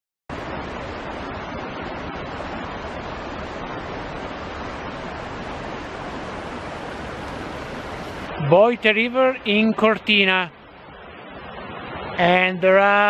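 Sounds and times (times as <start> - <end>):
river rushing over stones: 0.3 - 13.0.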